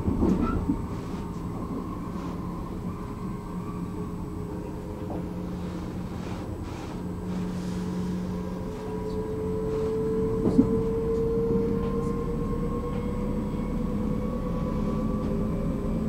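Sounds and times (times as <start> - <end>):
electric train rumbling: 0.0 - 16.0
train humming whine: 0.0 - 16.0.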